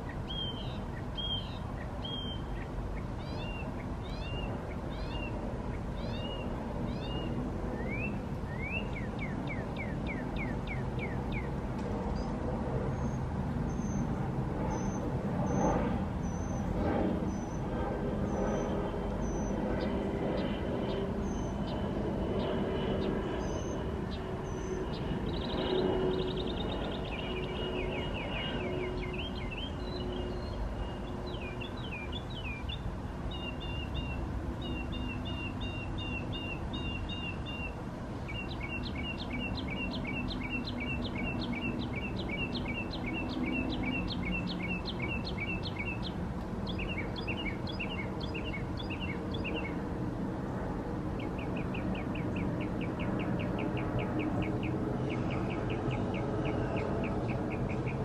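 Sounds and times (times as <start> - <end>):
small songbirds chirping: 0.0 - 49.8, 51.2 - 58.0.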